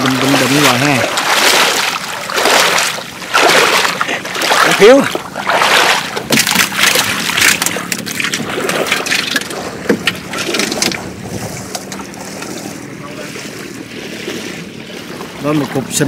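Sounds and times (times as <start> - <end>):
muddy water splashing: 0.0 - 16.0.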